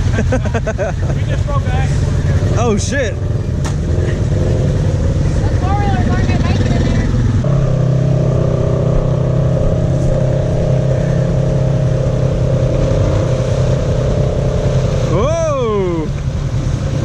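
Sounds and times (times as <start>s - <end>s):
atv engine running at low revs: 0.0s - 17.0s.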